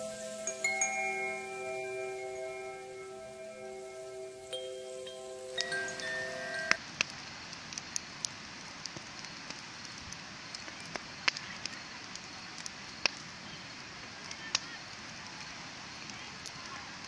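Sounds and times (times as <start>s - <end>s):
bonfire flames hissing: 0.0s - 17.0s
fire crackles and pops: 0.0s - 17.0s.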